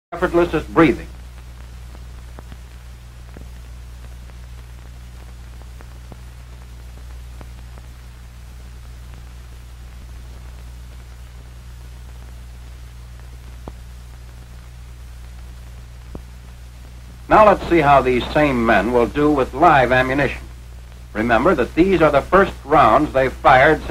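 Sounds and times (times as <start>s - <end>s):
old film soundtrack hiss and hum: 0.1s - 23.9s
faint crackles: 0.2s - 23.9s.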